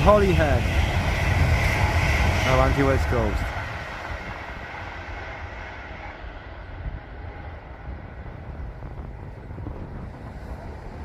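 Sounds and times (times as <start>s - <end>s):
train passing with rushing rumble: 0.0s - 11.0s.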